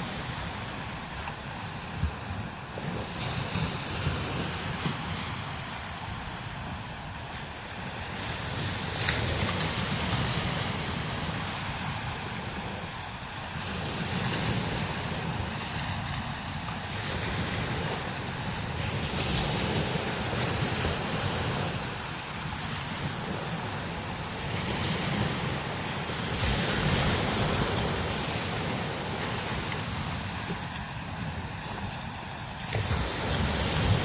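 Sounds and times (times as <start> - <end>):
strong gusty wind: 0.0 - 34.0
wind buffeting microphone: 0.0 - 34.0.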